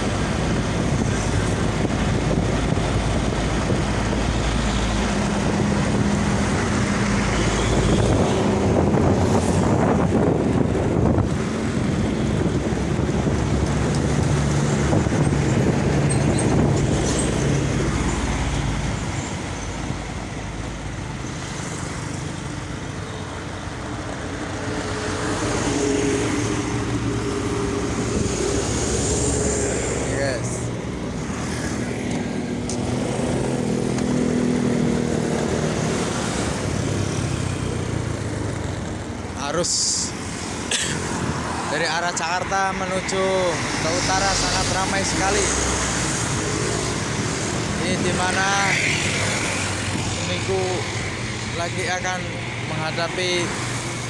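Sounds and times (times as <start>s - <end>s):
heavy road traffic passing: 0.0s - 54.0s.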